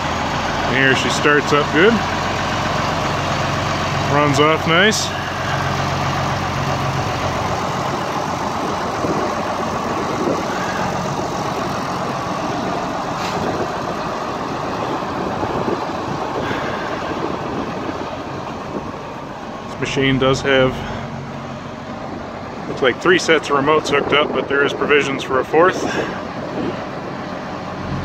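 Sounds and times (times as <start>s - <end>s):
tractor diesel engine idling: 0.0s - 28.0s.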